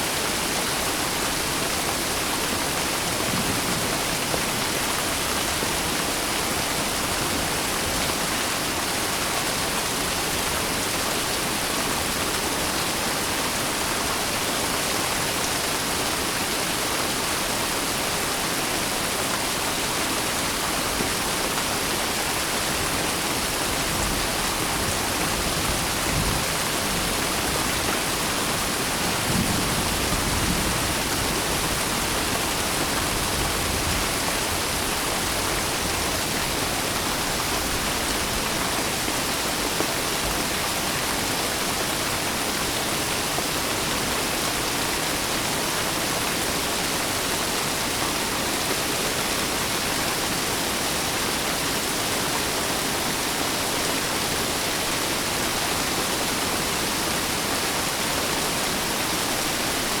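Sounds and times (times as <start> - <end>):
steady rain hissing: 0.0 - 60.0.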